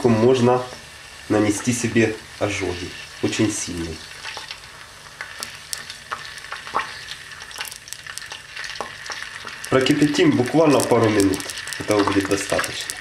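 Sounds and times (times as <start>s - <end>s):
oil crackling and popping: 0.0s - 13.0s
oil sizzling in a pot: 0.0s - 13.0s.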